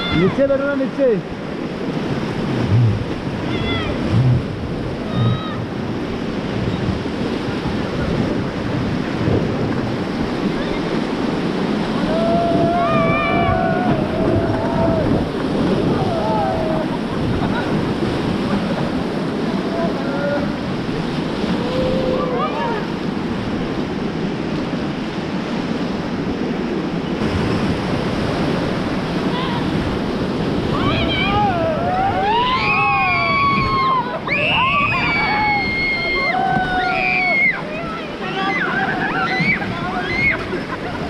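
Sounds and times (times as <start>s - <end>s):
whitewater rushing: 0.0s - 41.0s
wind buffeting microphone: 1.3s - 41.0s.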